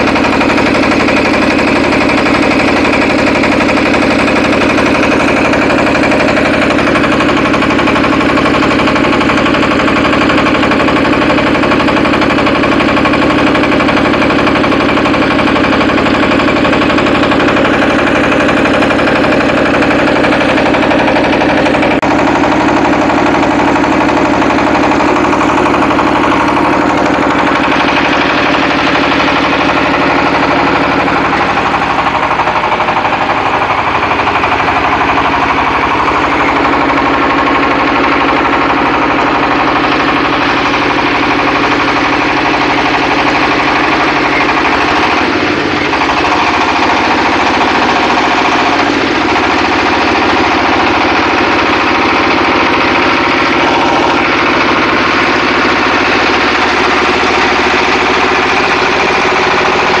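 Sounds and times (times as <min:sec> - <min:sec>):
brick extruder motor chugging: 0:00.0 - 1:00.0.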